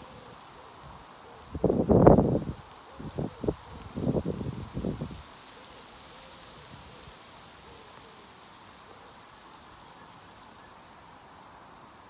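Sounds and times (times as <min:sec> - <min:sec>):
wind rustling leaves: 0:00.0 - 0:12.0.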